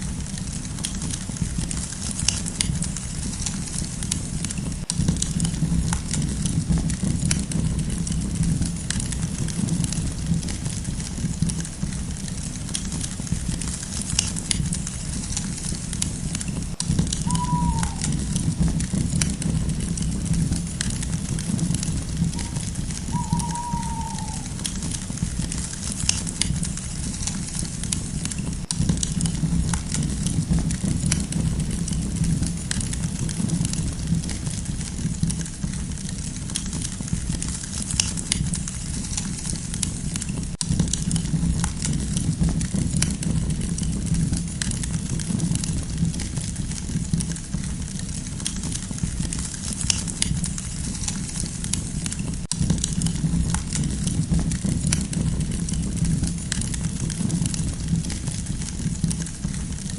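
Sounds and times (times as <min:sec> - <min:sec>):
campfire crackles and pops: 0:00.0 - 0:59.9
low noise of flames: 0:00.0 - 0:59.9.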